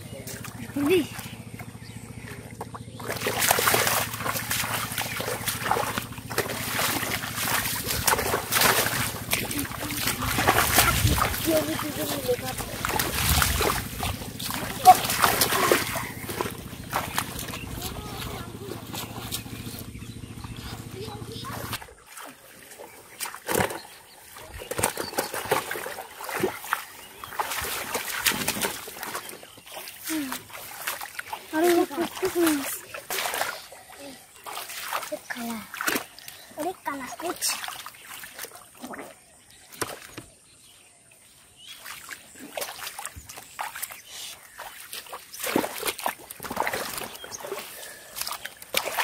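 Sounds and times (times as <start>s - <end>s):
splashing in shallow water: 0.0s - 49.0s.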